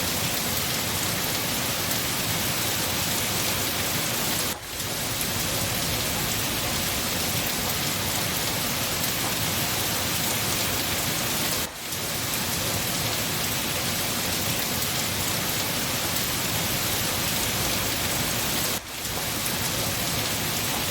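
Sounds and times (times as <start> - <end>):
heavy rainfall: 0.0 - 20.9.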